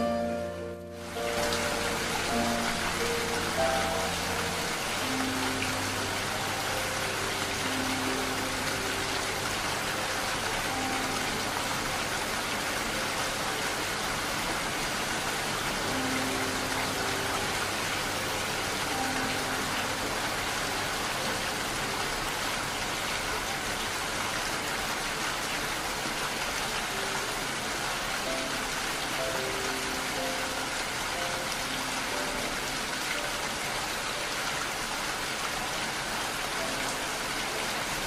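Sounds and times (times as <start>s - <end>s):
faint slow music notes: 0.0s - 38.0s
steady rain falling: 0.0s - 38.0s.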